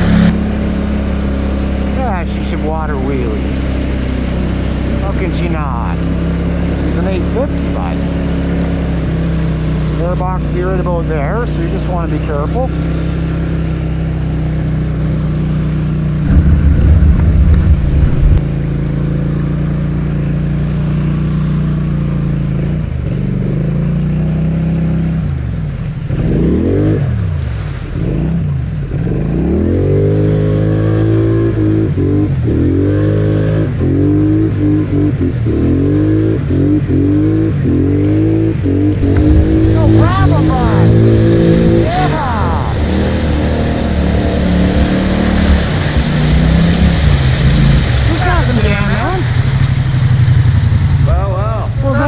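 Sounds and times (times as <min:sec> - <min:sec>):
atv engine revving: 0:00.0 - 0:18.4, 0:20.2 - 0:52.0.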